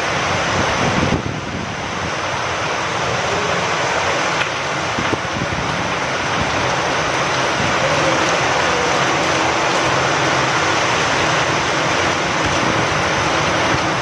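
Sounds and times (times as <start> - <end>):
steady rain hiss: 0.0 - 14.0
wind: 0.0 - 14.0.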